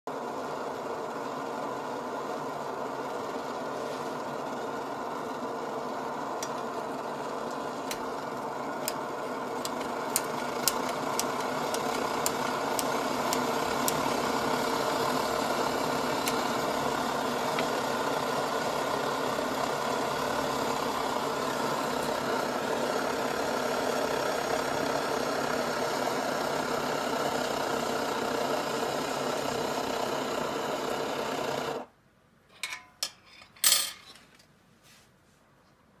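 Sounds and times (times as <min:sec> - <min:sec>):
stove burner rushing: 0:00.1 - 0:31.9.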